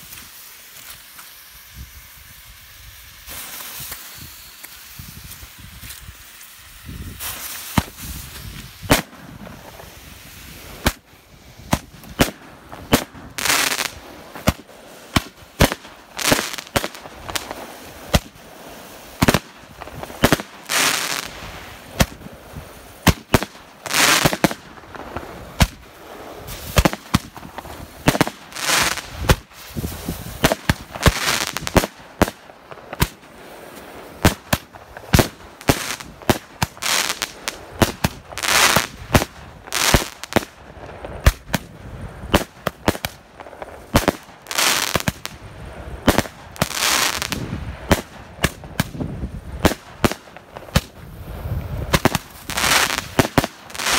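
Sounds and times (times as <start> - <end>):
fireworks banging and popping: 0.0 - 53.9
fireworks whooshing: 0.0 - 53.9.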